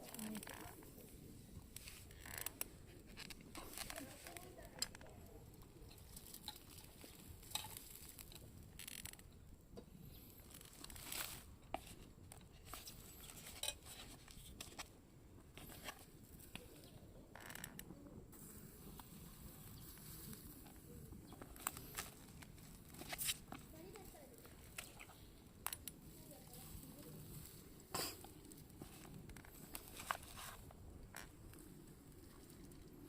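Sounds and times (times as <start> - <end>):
faint rustling: 0.0 - 9.3, 15.5 - 33.0
light clicks of handled objects: 1.7 - 15.0, 18.9 - 33.0.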